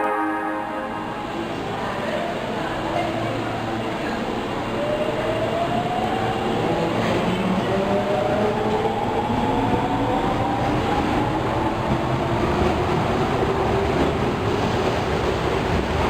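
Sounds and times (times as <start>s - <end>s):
subway train rumbling: 0.0s - 16.0s.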